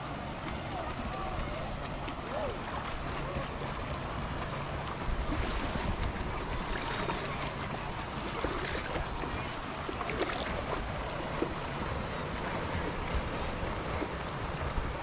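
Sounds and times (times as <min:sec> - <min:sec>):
faint distant voices: 0:00.0 - 0:15.0
lapping sea water: 0:00.0 - 0:15.0.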